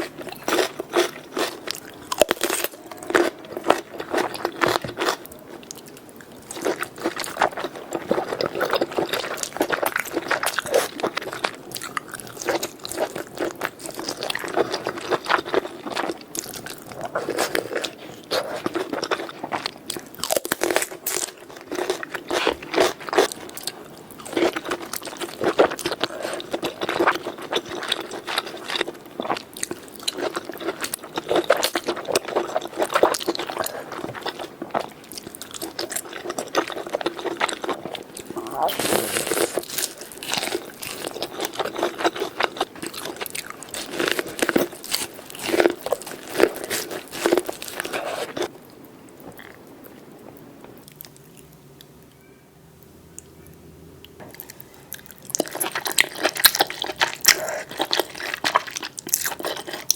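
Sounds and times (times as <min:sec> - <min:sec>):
crunchy chewing of seafood: 0:00.0 - 0:51.9, 0:53.5 - 0:59.9.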